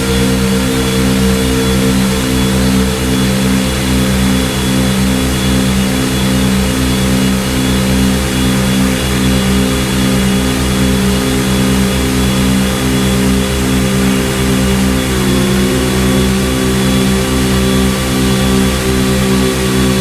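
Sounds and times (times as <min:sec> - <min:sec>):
pulsing synthesizer drone: 0:00.0 - 0:20.0.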